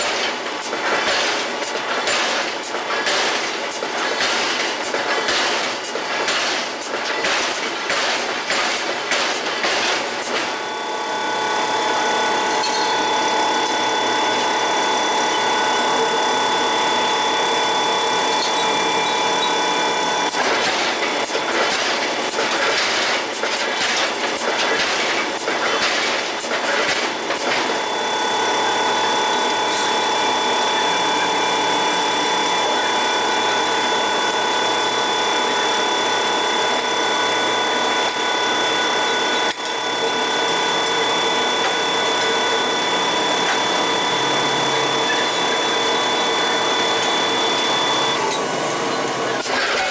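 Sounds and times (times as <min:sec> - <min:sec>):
machinery high whine: 0:00.0 - 0:49.9.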